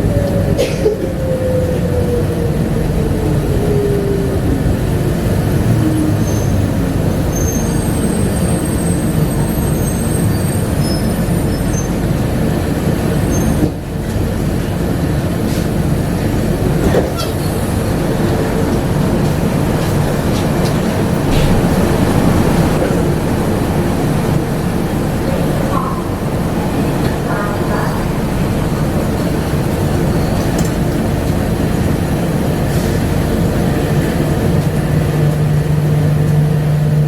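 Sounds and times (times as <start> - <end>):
people-mover car rumbling: 0.0 - 37.0.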